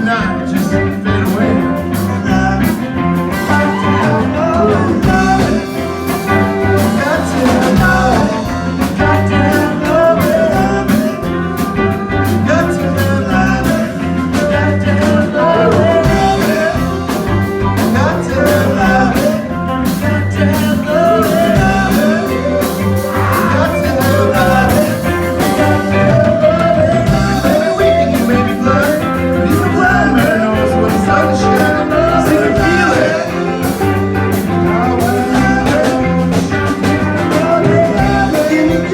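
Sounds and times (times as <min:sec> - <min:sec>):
band playing rock and roll: 0:00.0 - 0:38.9
person singing: 0:00.0 - 0:38.9.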